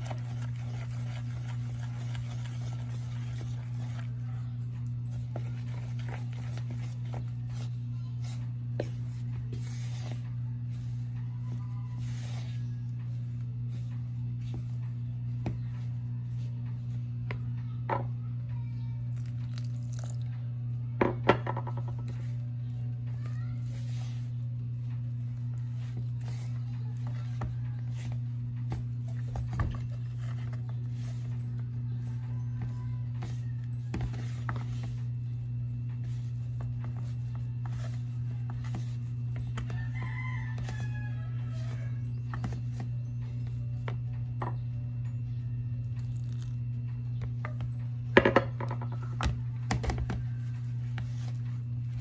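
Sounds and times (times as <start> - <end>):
wooden spoon stirring dough: 0.0 - 20.2, 21.6 - 52.0
steady low hum: 0.0 - 52.0.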